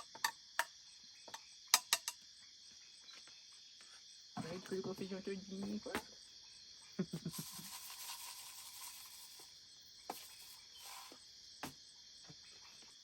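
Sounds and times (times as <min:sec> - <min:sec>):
crickets and insects chirping: 0:00.0 - 0:13.0.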